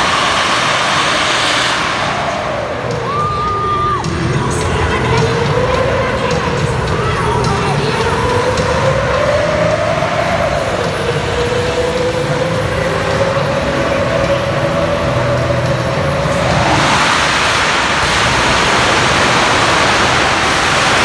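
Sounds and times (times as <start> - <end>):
jet engine rushing and whistling: 0.0 - 21.0.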